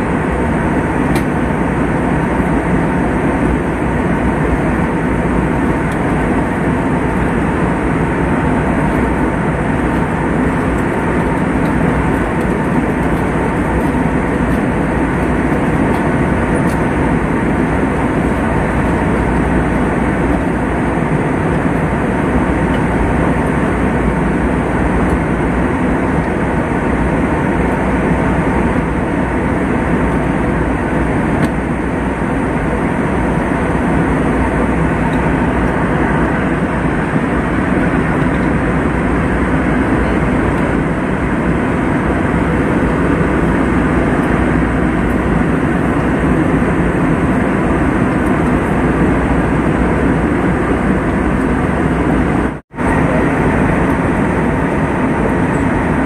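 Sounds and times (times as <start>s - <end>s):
airliner cabin noise: 0.0s - 56.0s.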